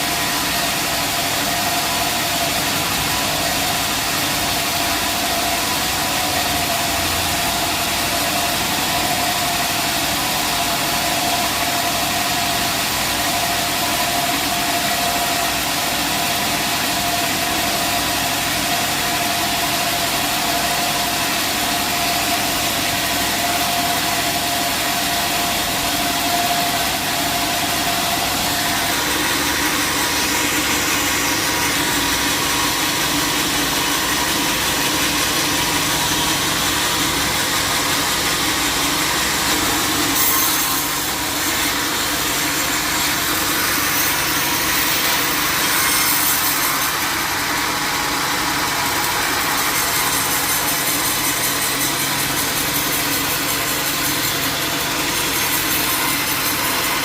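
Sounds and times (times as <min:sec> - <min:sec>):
sawmill machinery running: 0:00.0 - 0:57.0
steady machine whine: 0:00.0 - 0:57.0.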